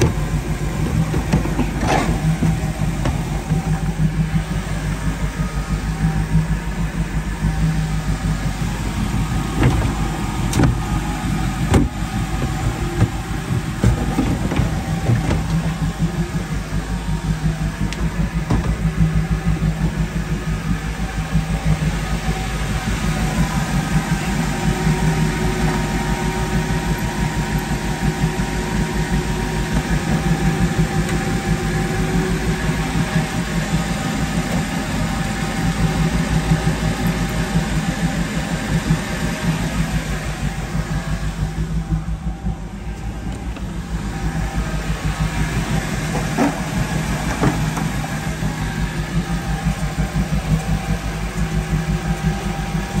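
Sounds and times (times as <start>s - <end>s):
boat engine idling: 0.0s - 53.0s.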